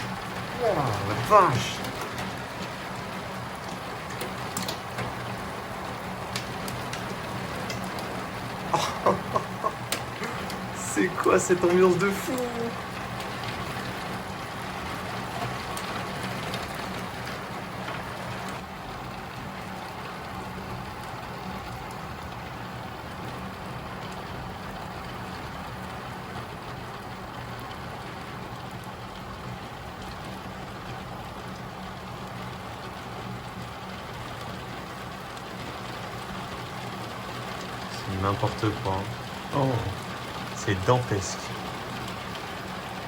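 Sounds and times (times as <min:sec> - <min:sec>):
heavy rain on a roof: 0:00.0 - 0:43.0.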